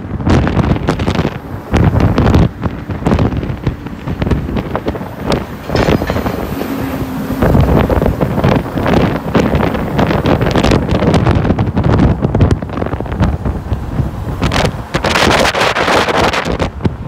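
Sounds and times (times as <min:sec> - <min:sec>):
bus rumble: 0:00.0 - 0:17.0
traffic: 0:00.0 - 0:17.0
wind buffeting microphone: 0:00.0 - 0:17.0.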